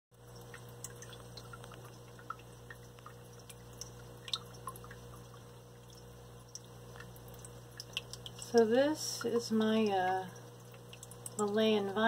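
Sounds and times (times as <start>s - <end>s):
steady low hum: 0.2s - 12.0s
water drips: 0.2s - 12.0s.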